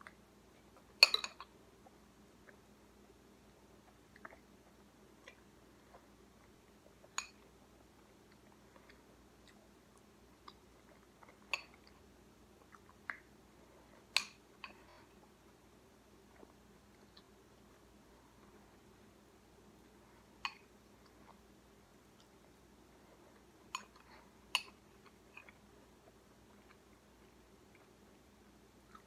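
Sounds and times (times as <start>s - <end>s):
chewing cereal: 0.0s - 18.9s, 19.6s - 29.0s.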